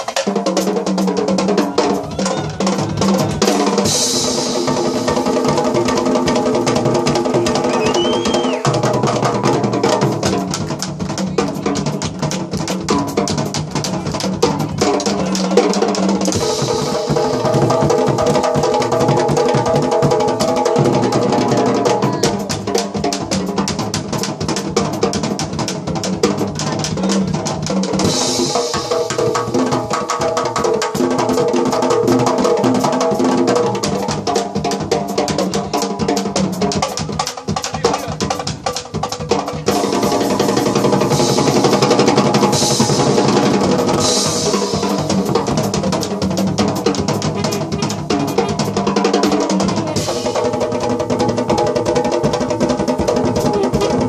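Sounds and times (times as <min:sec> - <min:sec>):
hand drums driving beat: 0:00.0 - 0:54.0
jazz band playing: 0:00.0 - 0:54.0.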